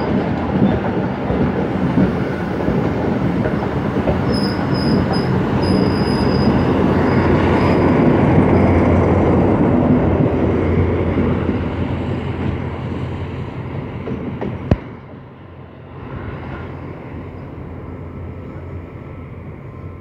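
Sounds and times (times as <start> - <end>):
diesel locomotive engine rumble: 0.0 - 20.0
train wheels on rails: 0.0 - 20.0.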